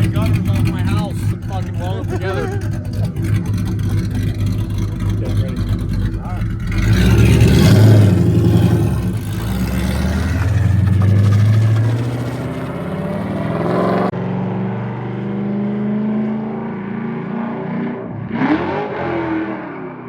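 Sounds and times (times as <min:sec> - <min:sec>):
car engine and exhaust revving: 0:00.0 - 0:20.0.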